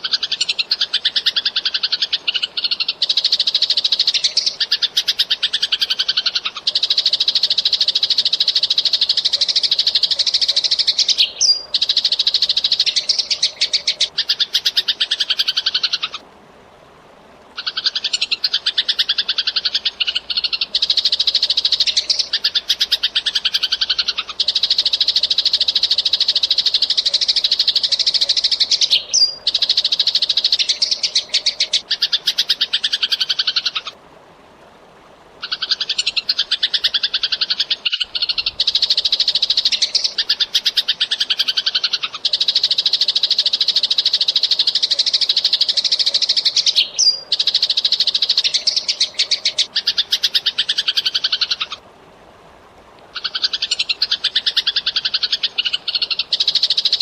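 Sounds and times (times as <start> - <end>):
sparrows chirping: 0.0 - 16.2, 17.6 - 33.6, 37.8 - 51.8.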